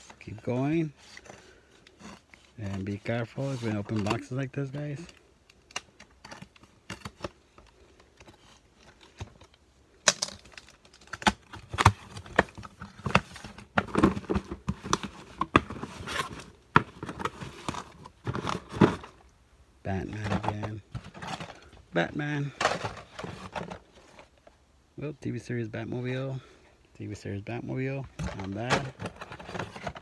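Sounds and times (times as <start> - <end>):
plastic packaging rustling and clicking: 0.0 - 19.3, 20.0 - 24.6, 28.0 - 30.0.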